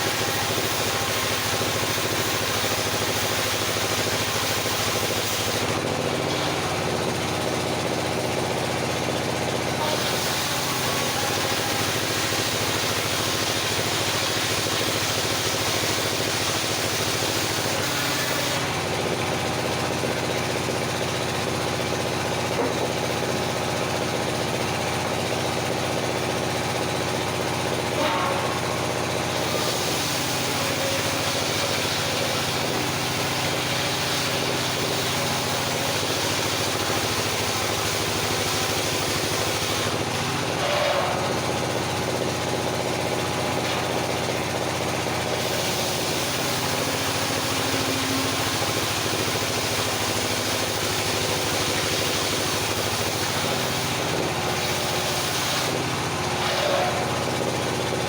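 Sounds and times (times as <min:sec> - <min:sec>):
saw blade cutting wood: 0:00.0 - 0:58.0
sawmill machine drone: 0:00.0 - 0:58.0.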